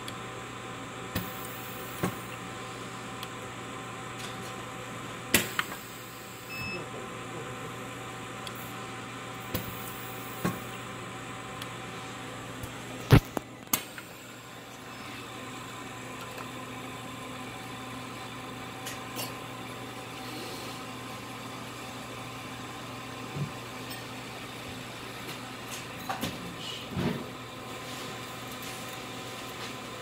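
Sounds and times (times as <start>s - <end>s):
vacuum pump and fan hum: 0.0s - 30.0s.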